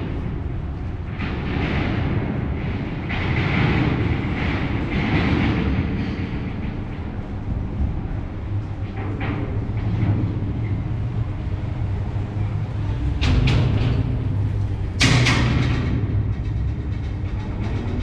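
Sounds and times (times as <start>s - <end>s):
low rumble in tunnel: 0.0s - 18.0s.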